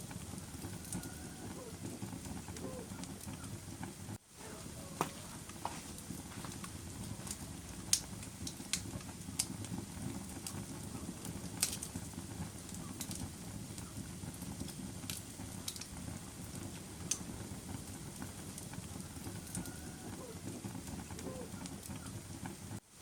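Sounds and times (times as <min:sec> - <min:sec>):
fire flames rumbling: 0:00.0 - 0:23.0
wood crackling and popping: 0:00.0 - 0:23.0.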